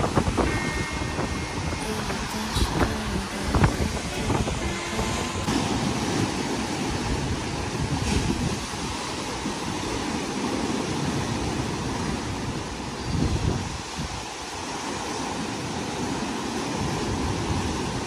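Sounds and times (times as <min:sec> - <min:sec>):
ocean waves crashing on rocks: 0:00.0 - 0:18.0.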